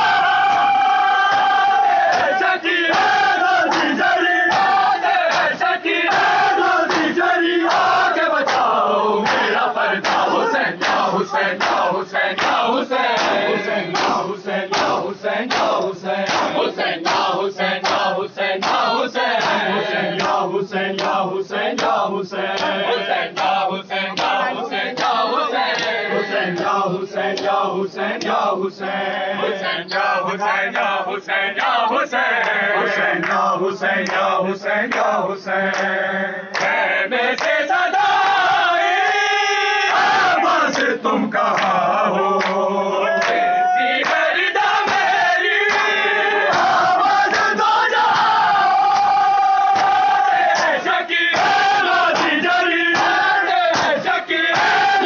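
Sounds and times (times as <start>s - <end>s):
men chanting in unison: 0.0s - 55.0s
hands slapping chests: 0.4s - 28.4s, 34.0s - 34.3s, 35.7s - 37.7s, 40.0s - 41.8s, 42.4s - 55.0s.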